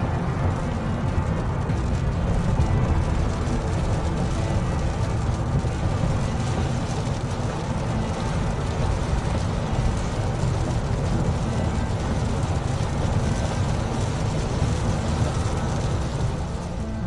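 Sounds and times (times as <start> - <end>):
car road rumble from inside: 0.0 - 17.0.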